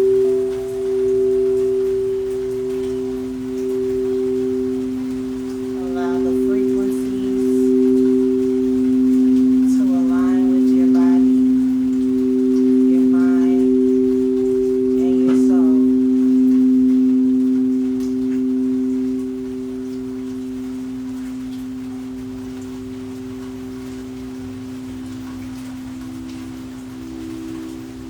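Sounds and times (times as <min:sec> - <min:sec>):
singing bowls ringing: 0:00.0 - 0:28.0.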